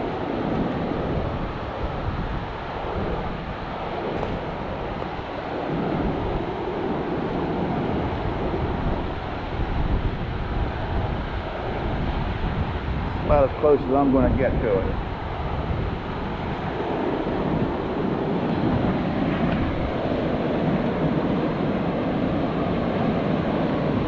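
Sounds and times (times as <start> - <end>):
floodwater rushing over rapids: 0.0 - 24.0
wind buffeting microphone: 0.0 - 24.0.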